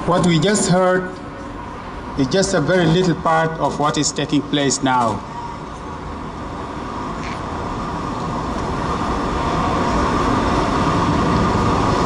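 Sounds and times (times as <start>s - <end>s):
road traffic noise: 0.0s - 12.0s
vehicle approaching: 0.0s - 12.0s.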